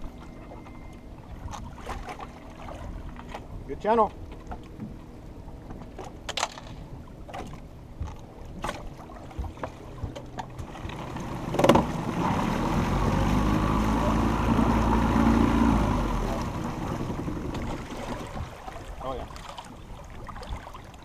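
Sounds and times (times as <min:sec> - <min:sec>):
boat motor humming: 0:00.0 - 0:21.0
water rushing along hull: 0:00.0 - 0:21.0.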